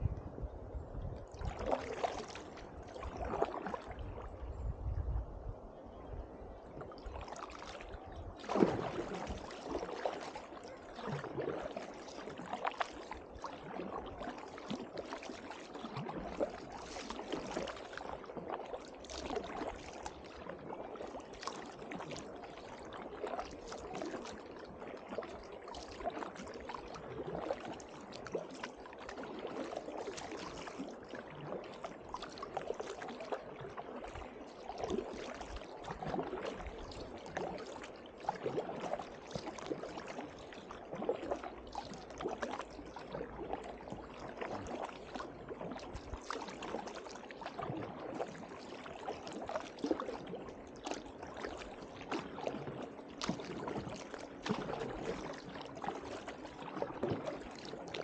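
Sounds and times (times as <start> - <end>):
kayak paddle splashing in water: 1.3 - 4.4, 6.7 - 58.0.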